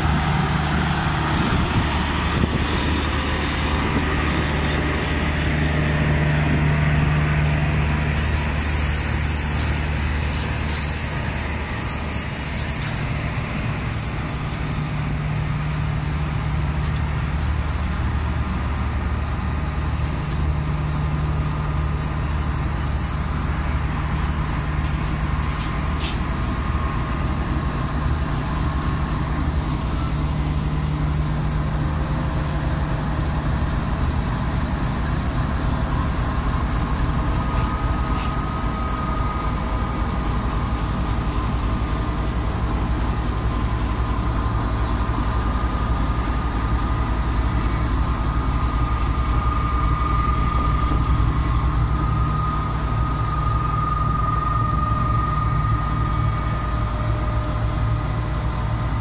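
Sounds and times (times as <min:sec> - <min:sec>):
locomotive engine drone: 0:00.0 - 0:59.0
wheels squealing on rails: 0:00.0 - 0:59.0.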